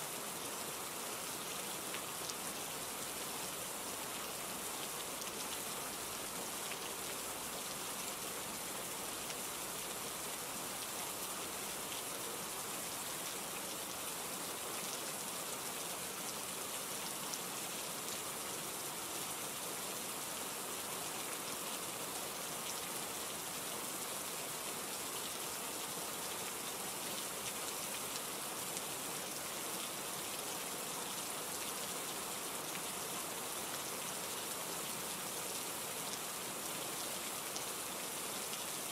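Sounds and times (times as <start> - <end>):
rain pattering on a surface: 0.1 - 38.9.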